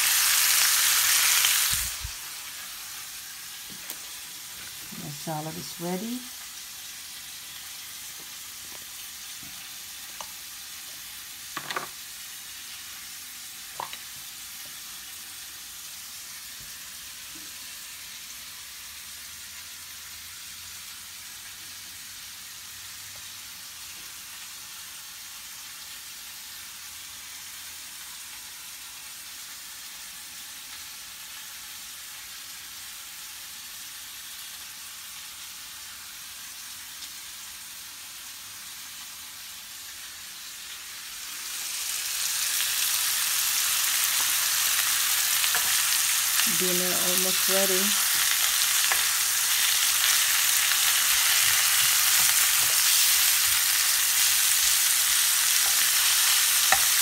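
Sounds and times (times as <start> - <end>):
pork chops sizzling on grill: 0.0 - 57.0.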